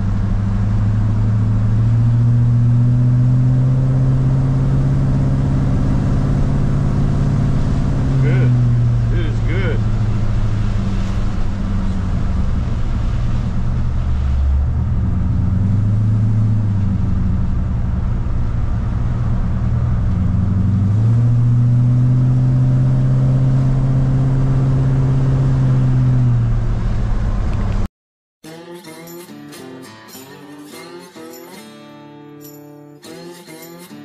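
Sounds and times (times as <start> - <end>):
pickup engine running: 0.0 - 27.9.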